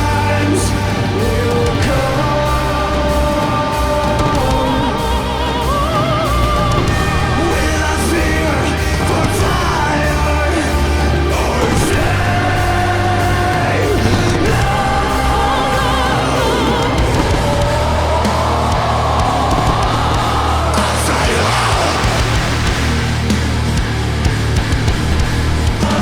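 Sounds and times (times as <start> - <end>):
person singing with vibrato: 0.0 - 23.0
dramatic music: 0.0 - 26.0
low bass: 0.0 - 26.0.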